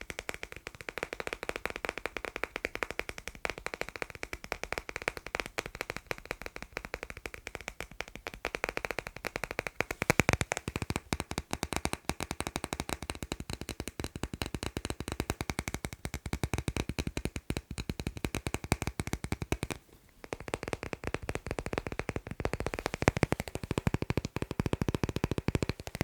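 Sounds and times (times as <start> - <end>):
rapid tapping on magnets: 0.0 - 26.0.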